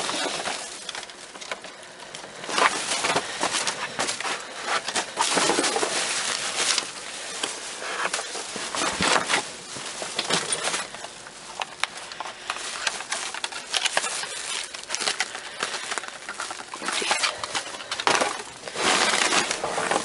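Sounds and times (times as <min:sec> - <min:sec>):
plastic packaging rustling: 0:00.0 - 0:20.0
small items clicking and knocking: 0:00.0 - 0:20.0.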